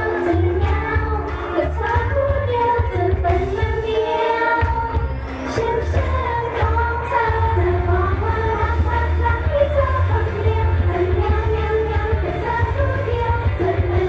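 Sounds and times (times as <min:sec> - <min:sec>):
pop backing track with bass beat: 0:00.0 - 0:14.0
women singing pop: 0:00.0 - 0:14.0.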